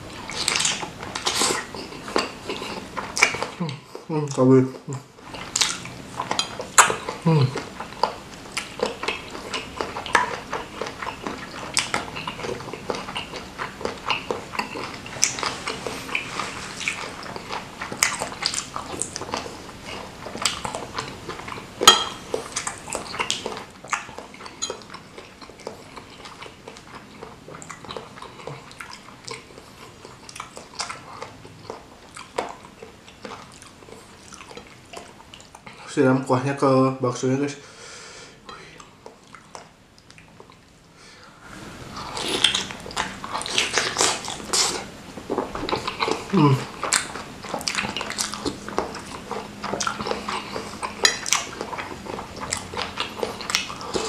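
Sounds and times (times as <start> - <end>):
person chewing with wet mouth sounds: 0.0 - 35.9, 38.4 - 40.8, 41.5 - 54.0.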